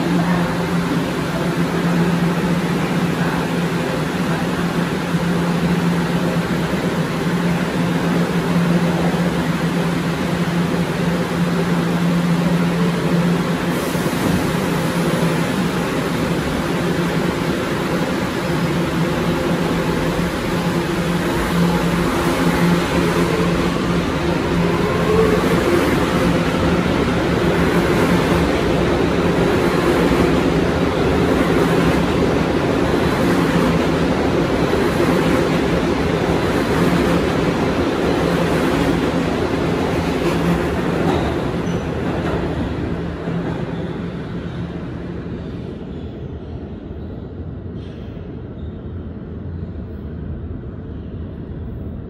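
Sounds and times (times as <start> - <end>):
subway train rumbling on rails: 0.0 - 52.0.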